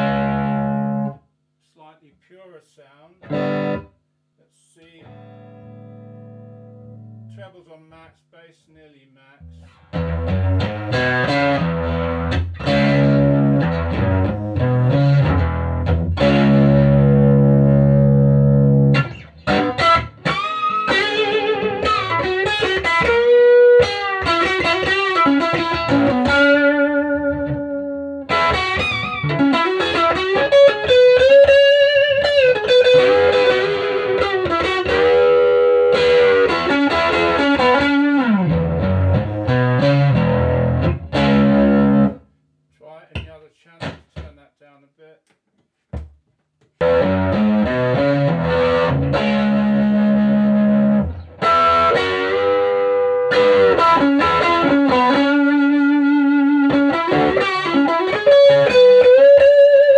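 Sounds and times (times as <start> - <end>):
electric guitar: 0.0 - 1.2, 3.2 - 3.9, 5.0 - 7.3, 9.5 - 42.2, 46.8 - 59.9.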